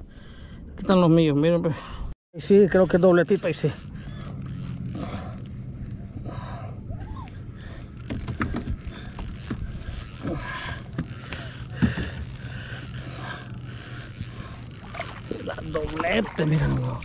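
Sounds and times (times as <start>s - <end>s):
fishing reel whirring and clicking: 2.4s - 16.6s.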